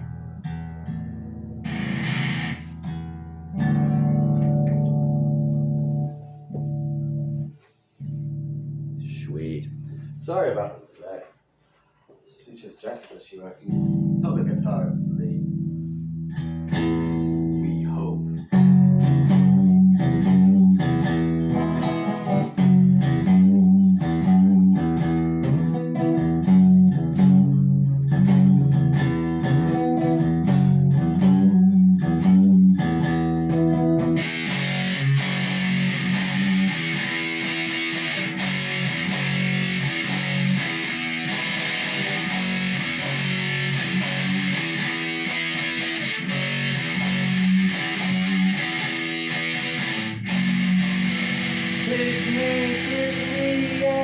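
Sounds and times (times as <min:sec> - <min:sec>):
electric guitar riff: 0:00.0 - 0:10.7, 0:13.6 - 0:54.0.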